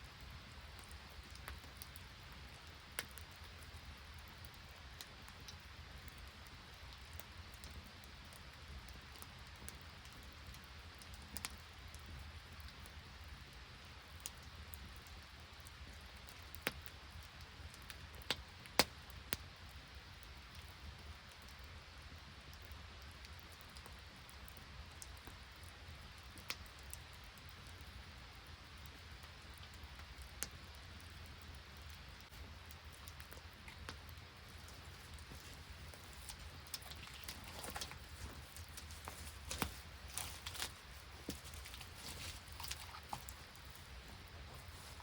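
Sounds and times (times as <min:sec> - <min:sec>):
rain and sleet falling: 0:00.0 - 0:45.0.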